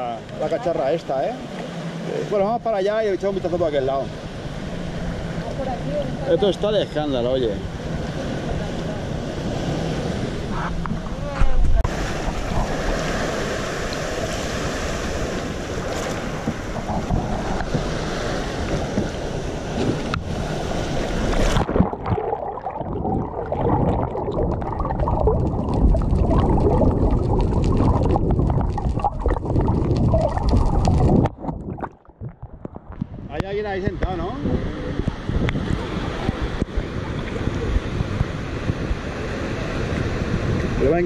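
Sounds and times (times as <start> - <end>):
underwater sloshing and bubbling: 0.0 - 40.8
sea water splashing: 0.0 - 41.0
wind on microphone: 7.5 - 41.0.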